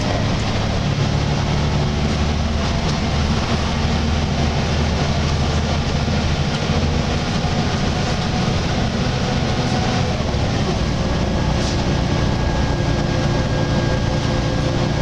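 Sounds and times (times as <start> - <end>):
bus diesel engine drone: 0.0 - 15.0
bus groaning: 0.0 - 15.0.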